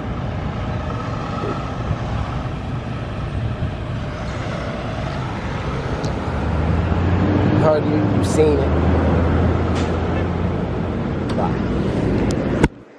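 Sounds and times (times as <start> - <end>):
traffic rumble: 0.0 - 12.9.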